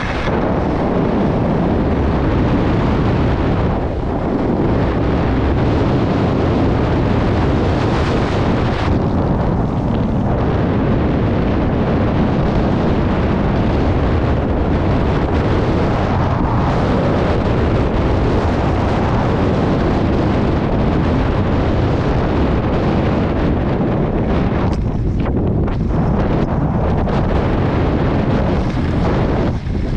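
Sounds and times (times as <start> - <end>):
wind rumble on microphone: 0.0 - 29.9.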